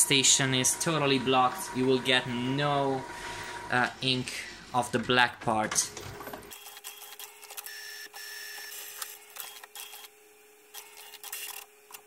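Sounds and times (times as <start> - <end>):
inkjet printer whining: 0.0 - 12.0.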